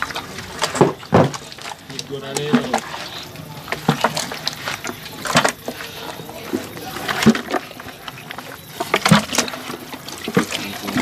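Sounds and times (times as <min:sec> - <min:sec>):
hands squelching raw meat: 0:00.0 - 0:11.0.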